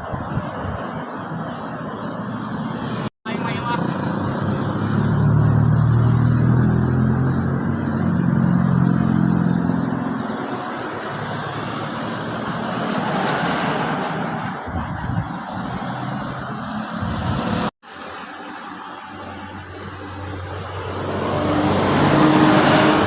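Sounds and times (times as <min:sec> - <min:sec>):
passing vehicle rush: 0:00.0 - 0:23.0
bus diesel engine passing: 0:00.7 - 0:23.0.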